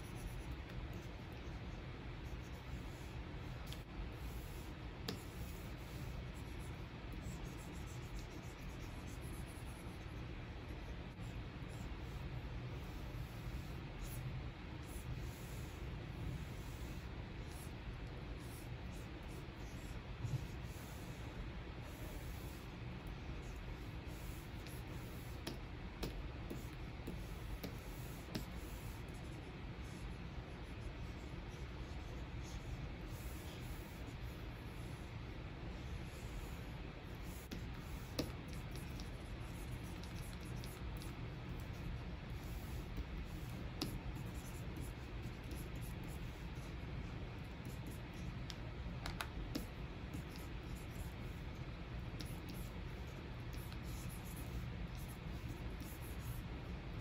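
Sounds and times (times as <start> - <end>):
stylus scratching and tapping on screen: 0.0 - 35.0, 35.8 - 57.0
steady low background noise: 0.0 - 57.0
steady low hum: 0.0 - 57.0.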